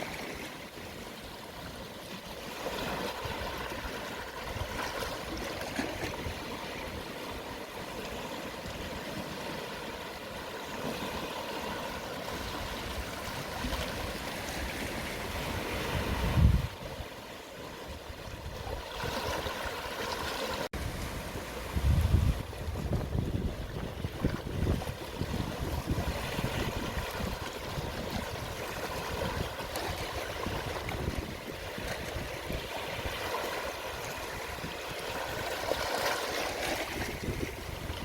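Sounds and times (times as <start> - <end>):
sea waves washing in: 0.0 - 38.0.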